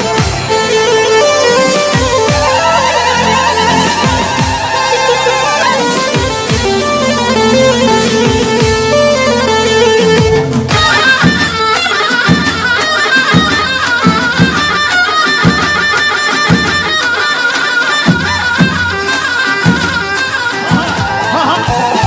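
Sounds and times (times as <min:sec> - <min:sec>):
thumping drum beat: 0:00.0 - 0:17.2, 0:18.0 - 0:22.0
fast ornamented lead melody: 0:00.0 - 0:21.7.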